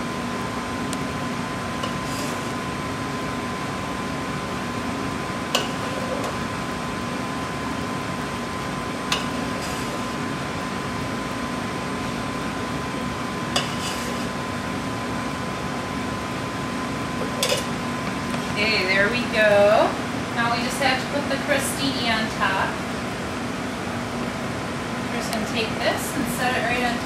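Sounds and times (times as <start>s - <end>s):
kitchen ventilation hum: 0.0s - 27.0s.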